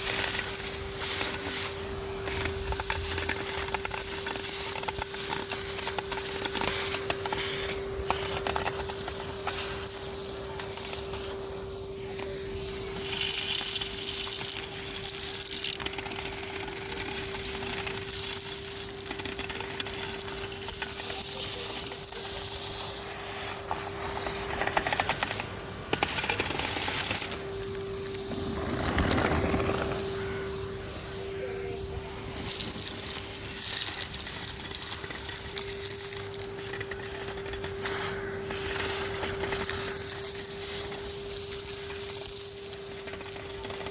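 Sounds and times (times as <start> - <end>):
debris rattling up hose: 0.0 - 11.7, 12.9 - 30.3, 32.3 - 43.9
vacuum cleaner motor whine: 0.0 - 43.9.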